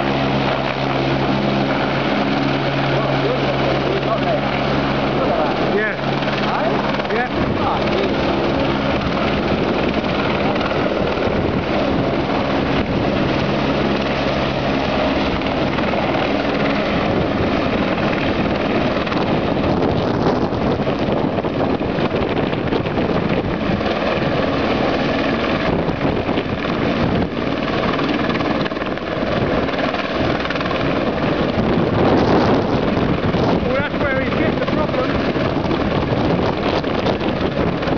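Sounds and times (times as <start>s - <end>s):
helicopter rotor and engine: 0.0s - 37.9s.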